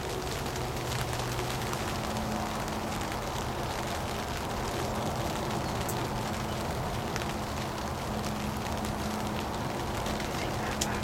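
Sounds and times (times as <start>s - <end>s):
faint crackles: 0.0s - 11.0s
light rain hissing: 0.0s - 11.0s.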